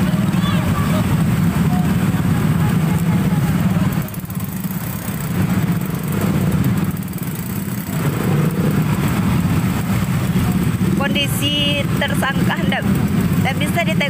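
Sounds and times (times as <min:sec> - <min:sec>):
motorcycle engines idling: 0:00.0 - 0:14.0.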